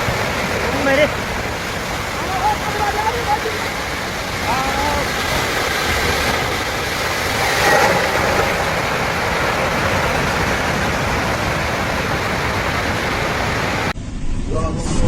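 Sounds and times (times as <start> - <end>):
landslide roar: 0.0 - 15.0.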